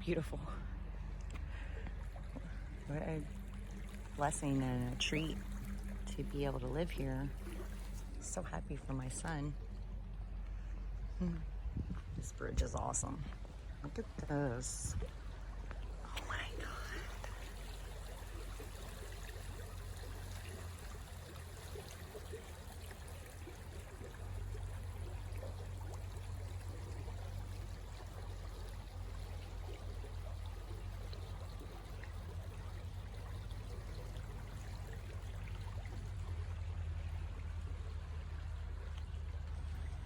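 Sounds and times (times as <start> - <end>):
low rumble: 0.0 - 40.0
stream flowing: 0.0 - 40.0.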